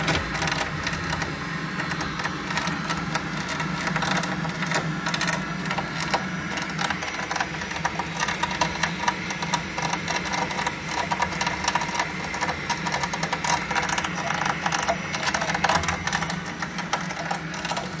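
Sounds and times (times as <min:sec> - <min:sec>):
fast irregular clicking and crackling: 0:00.0 - 0:18.0
gas boiler humming: 0:00.0 - 0:18.0.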